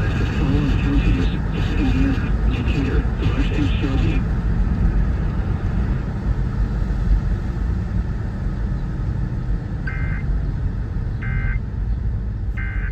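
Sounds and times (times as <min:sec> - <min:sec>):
low vehicle rumble: 0:00.0 - 0:12.9.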